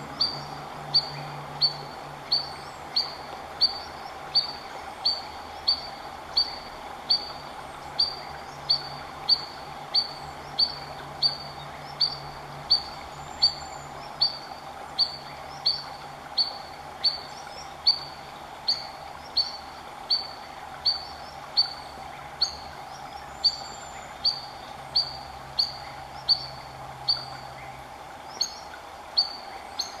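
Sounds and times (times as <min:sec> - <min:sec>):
sandpiper alarm calls: 0:00.1 - 0:22.6, 0:24.2 - 0:27.4.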